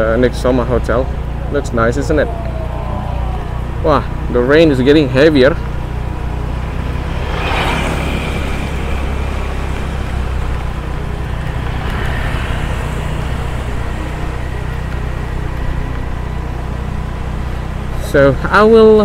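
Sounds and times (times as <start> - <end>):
road noise: 0.0 - 19.0
scooter engine humming: 0.0 - 19.0.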